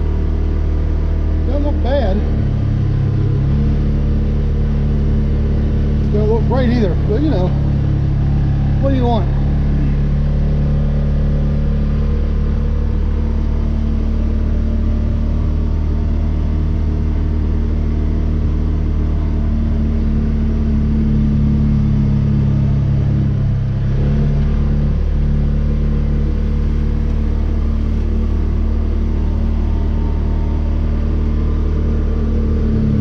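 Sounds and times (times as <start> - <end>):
vehicle engine running under load: 0.0 - 33.0.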